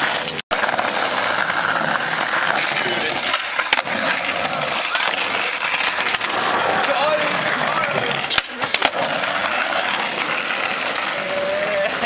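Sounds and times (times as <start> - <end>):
skateboard clacks: 0.0 - 12.0
skateboard wheels rolling on concrete: 0.0 - 12.0.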